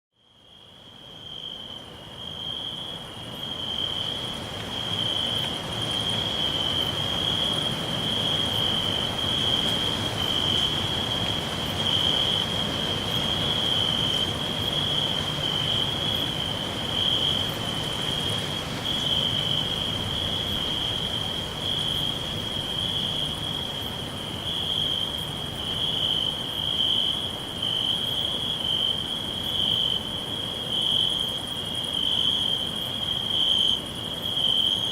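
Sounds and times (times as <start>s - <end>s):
crickets chirring: 0.2s - 34.9s.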